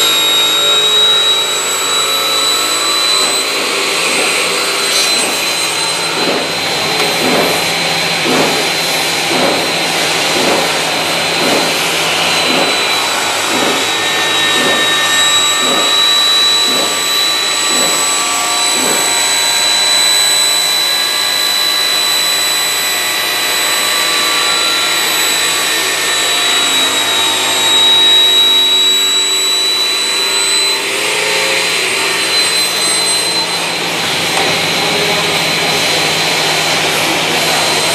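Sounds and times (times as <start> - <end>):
saw blade cutting aluminum tube: 0.0 - 34.6.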